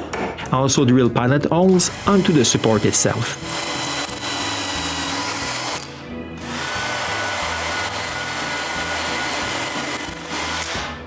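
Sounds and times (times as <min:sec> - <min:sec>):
background music: 0:00.0 - 0:11.0
power drill boring into wood: 0:01.8 - 0:10.9.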